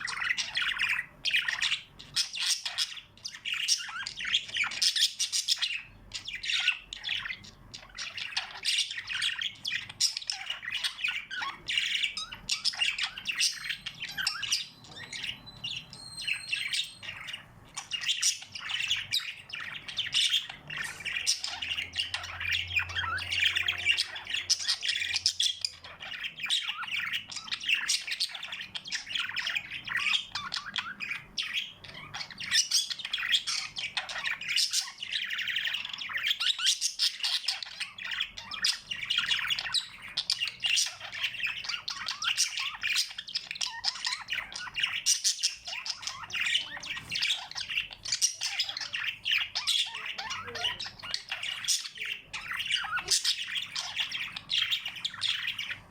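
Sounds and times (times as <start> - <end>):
cage birds chirping and squawking: 0.0 - 55.9.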